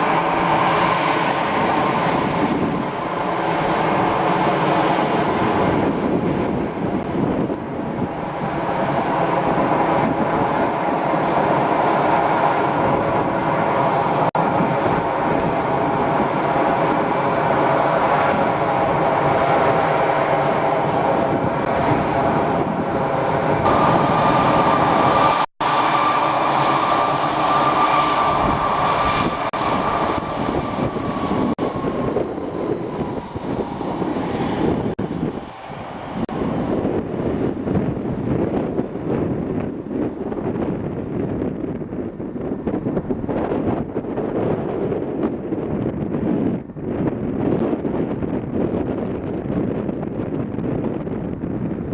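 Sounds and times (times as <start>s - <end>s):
engine whine: 0.0s - 51.9s
jet engines at high thrust: 0.0s - 51.9s.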